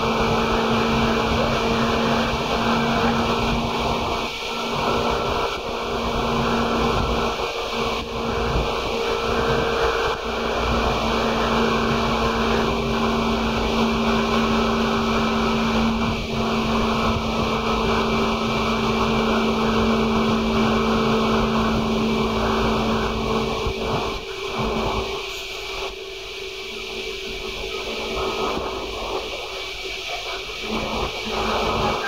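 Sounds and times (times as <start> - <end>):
electric train motor hum: 0.0 - 32.0
train wheels on rail: 0.0 - 32.0.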